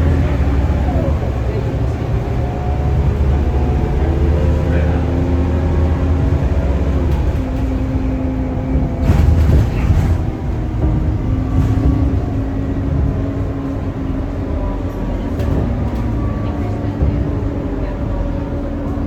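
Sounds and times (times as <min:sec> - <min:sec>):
bus diesel engine droning: 0:00.0 - 0:19.0.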